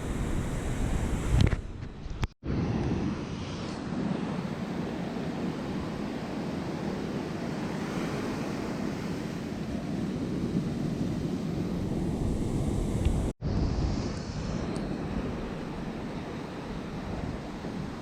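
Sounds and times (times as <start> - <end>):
wind rumbling on microphone: 0.0 - 18.0
ocean surf washing on beach: 2.5 - 18.0.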